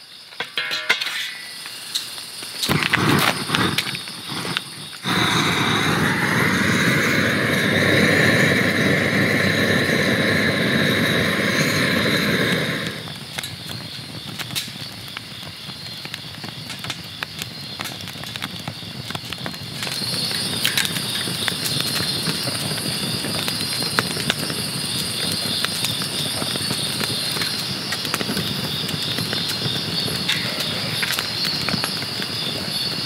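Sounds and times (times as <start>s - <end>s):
firewood crackling and popping: 0.1s - 33.0s.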